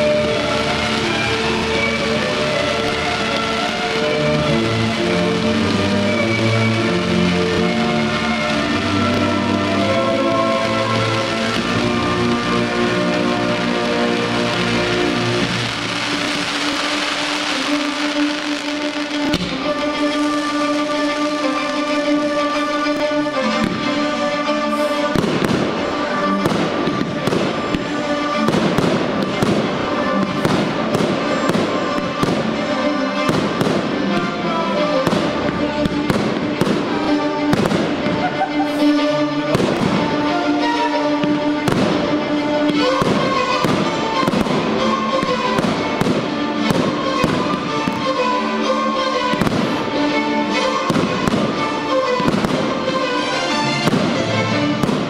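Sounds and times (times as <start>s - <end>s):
fireworks bursting and crackling: 0.0s - 55.0s
music with long held notes: 0.0s - 55.0s.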